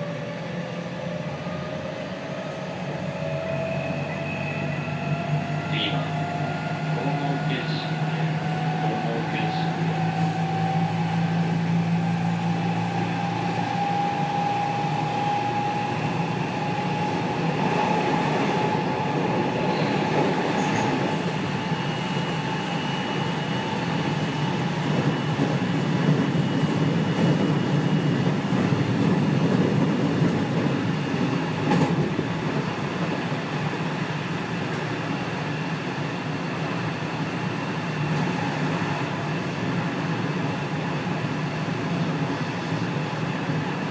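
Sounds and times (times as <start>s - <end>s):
train motor and inverter whine: 0.0s - 43.9s.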